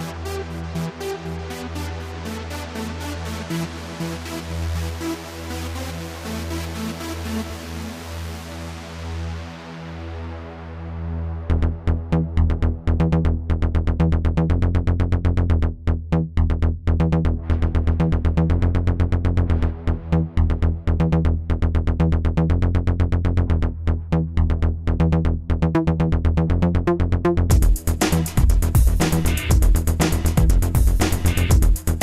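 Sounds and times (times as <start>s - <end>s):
electronic music with driving beat: 0.0s - 10.6s, 11.2s - 14.6s, 16.1s - 22.5s, 23.4s - 32.0s.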